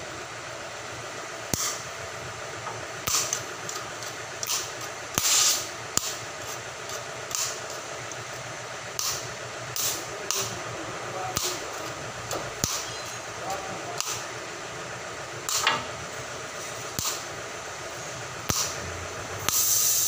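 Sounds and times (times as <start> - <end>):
cutting torch hissing: 1.0 - 20.0.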